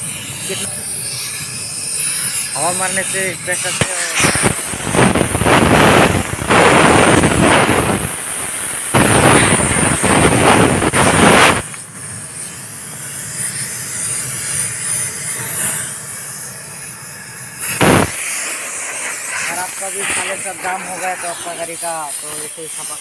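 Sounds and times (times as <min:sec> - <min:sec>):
compressed air blasting: 0:00.0 - 0:23.0.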